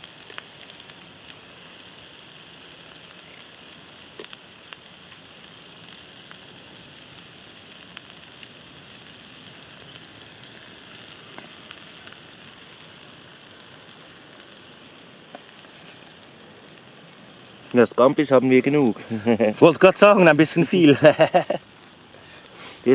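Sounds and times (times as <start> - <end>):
food sizzling in a pan: 0.0 - 22.9
small pops and crackles: 0.0 - 22.9.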